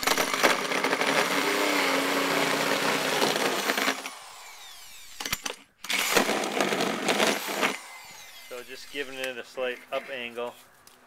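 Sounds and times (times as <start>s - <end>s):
power drill cutting plaster: 0.0s - 9.3s.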